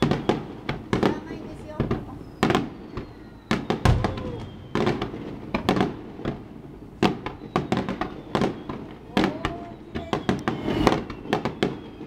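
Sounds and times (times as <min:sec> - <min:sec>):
firework shells bursting: 0:01.8 - 0:12.0.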